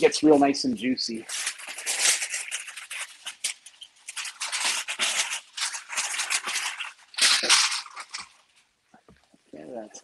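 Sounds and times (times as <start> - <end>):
aluminium foil crinkling: 0.0 - 8.8.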